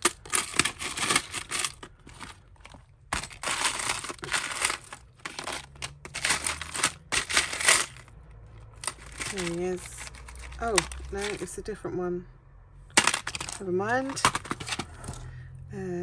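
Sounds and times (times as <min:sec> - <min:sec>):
jewellery clattering in plastic tub: 0:00.0 - 0:11.7, 0:12.9 - 0:15.3.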